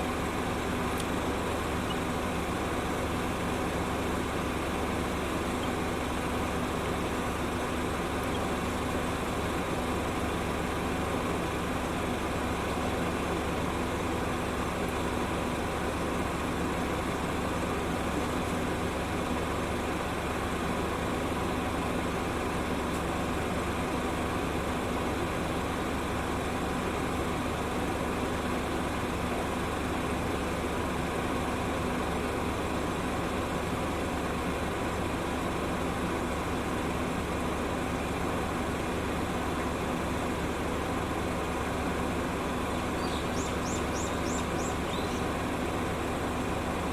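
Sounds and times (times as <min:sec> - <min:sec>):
engine-like hum: 0:00.0 - 0:46.9.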